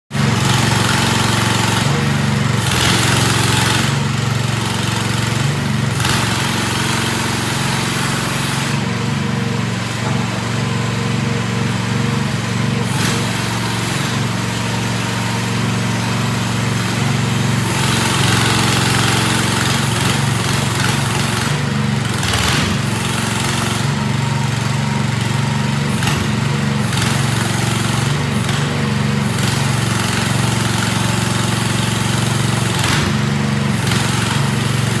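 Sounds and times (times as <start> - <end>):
small engine running: 0.2 - 35.0.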